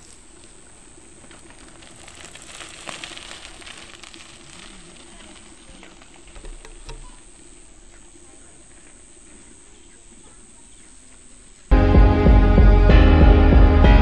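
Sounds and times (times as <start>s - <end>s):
campfire crackling: 0.0s - 11.8s.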